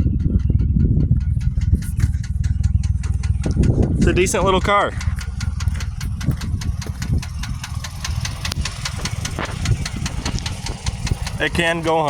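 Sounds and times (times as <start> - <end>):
engine running with knock: 0.0 - 12.0.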